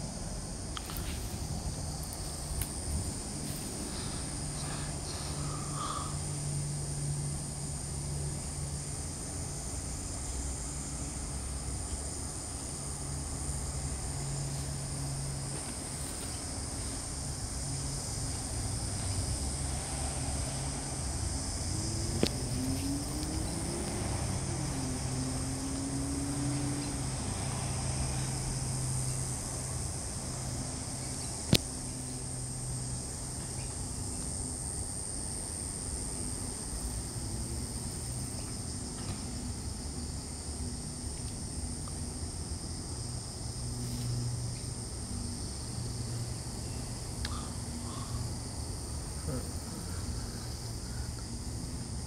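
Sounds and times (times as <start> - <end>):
distant aircraft drone: 0.0 - 52.0
insects chirring: 0.0 - 52.0.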